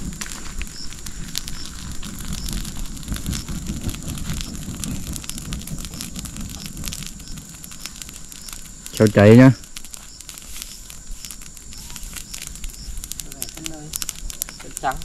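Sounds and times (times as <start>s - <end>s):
low rumble of flames: 0.0s - 15.0s
straw fire crackling: 0.0s - 15.0s.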